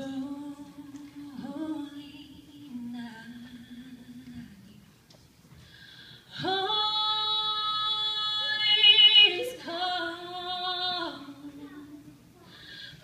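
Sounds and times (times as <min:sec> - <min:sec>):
woman singing unaccompanied: 0:00.0 - 0:04.9, 0:06.4 - 0:12.3.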